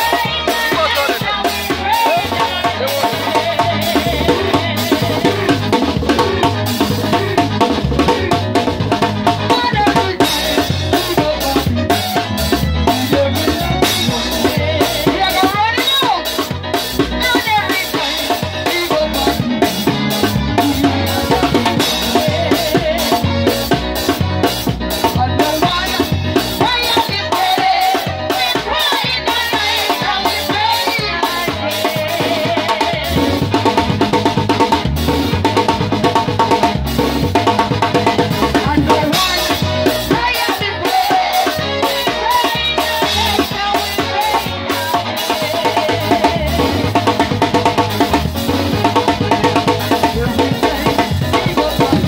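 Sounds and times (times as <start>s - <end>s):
live band playing: 0.0s - 52.0s
snare and bass drum beat: 0.0s - 52.0s.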